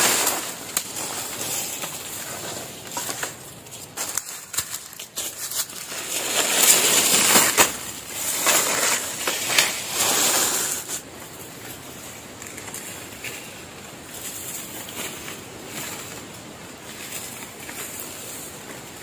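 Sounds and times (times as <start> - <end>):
leaves and brush rustling: 0.0 - 19.0.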